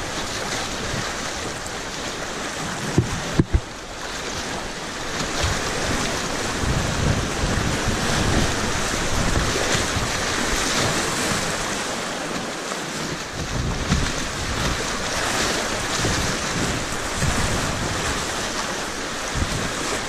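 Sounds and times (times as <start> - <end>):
wind buffeting microphone: 0.0 - 11.9, 13.0 - 20.0
rushing whitewater: 0.0 - 20.0
water splashing around boat: 0.0 - 20.0.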